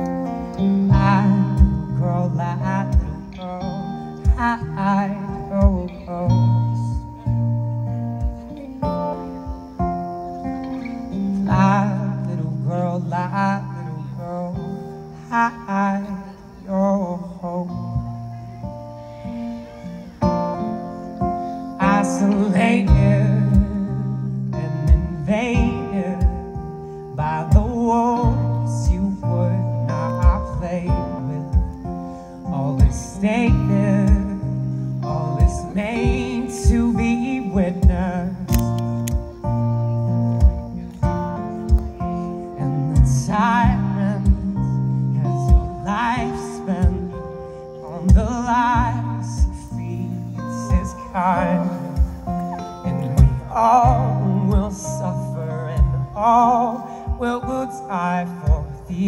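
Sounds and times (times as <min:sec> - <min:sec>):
acoustic and electric guitar: 0:00.0 - 0:59.0
person singing with vibrato: 0:00.0 - 0:59.0.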